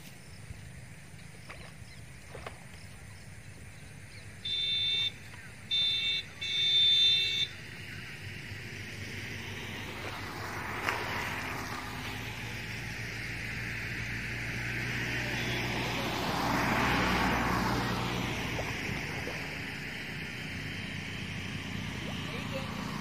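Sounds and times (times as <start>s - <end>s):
steady low hum: 0.0s - 23.0s
vehicle passing: 4.0s - 23.0s.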